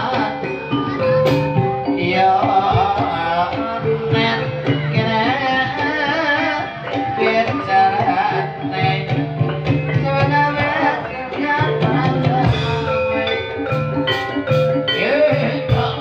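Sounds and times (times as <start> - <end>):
metallophones struck in quick notes: 0.0 - 16.0
rhythmic drum pulse: 0.0 - 16.0.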